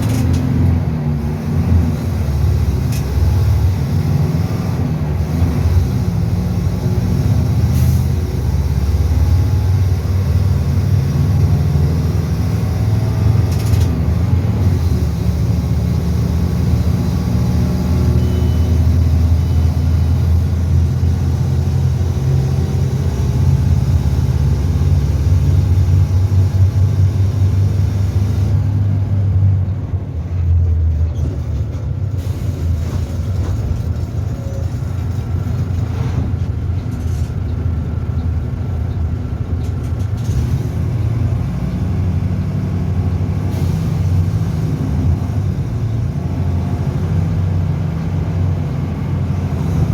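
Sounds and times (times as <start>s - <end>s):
bus diesel engine drone: 0.0s - 49.9s.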